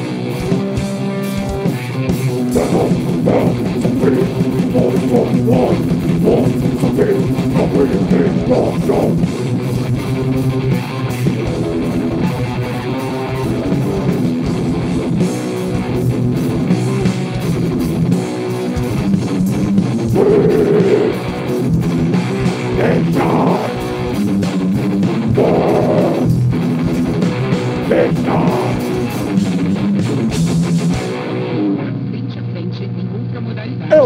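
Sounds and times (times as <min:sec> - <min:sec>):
heavy metal band playing live: 0:00.0 - 0:31.7.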